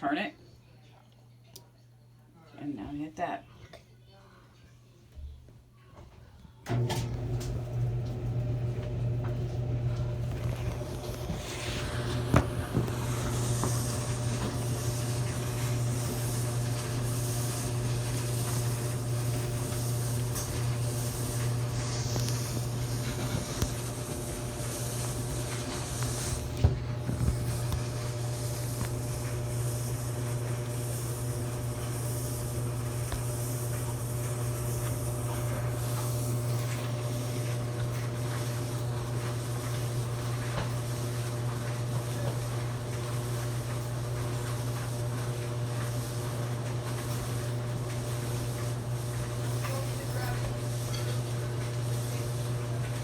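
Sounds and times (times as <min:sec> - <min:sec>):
dryer motor hum: 0:06.1 - 0:53.0.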